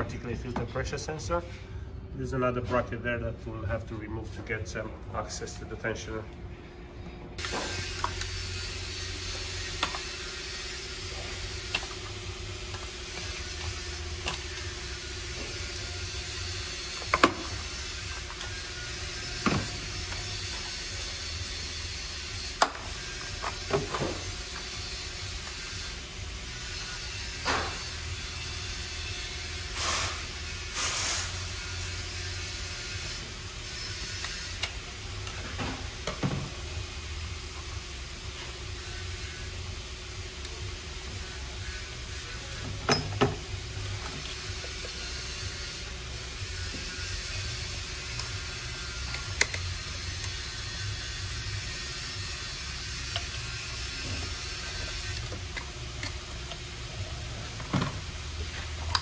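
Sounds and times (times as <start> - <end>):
workshop hiss and hum: 0.0 - 59.0.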